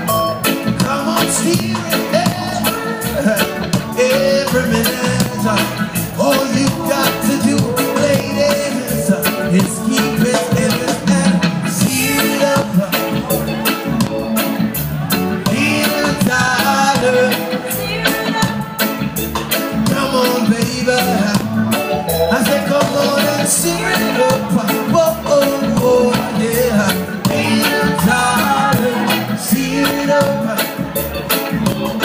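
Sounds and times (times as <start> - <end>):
person singing: 0.0 - 14.4, 15.4 - 32.0
reggae band playing: 0.0 - 32.0.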